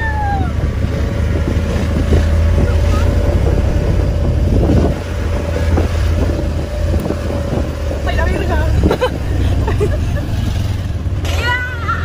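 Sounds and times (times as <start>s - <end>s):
wind buffeting microphone: 0.0s - 11.2s
vehicle low rumble: 0.0s - 12.0s.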